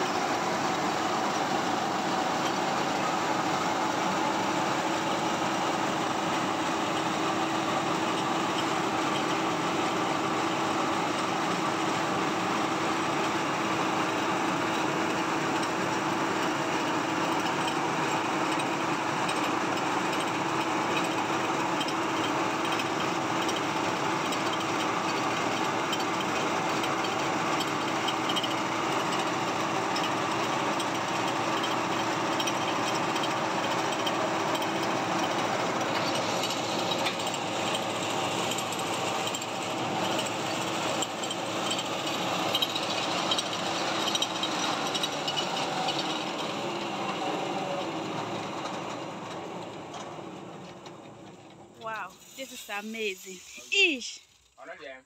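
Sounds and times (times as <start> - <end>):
milling machine running: 0.0 - 50.9.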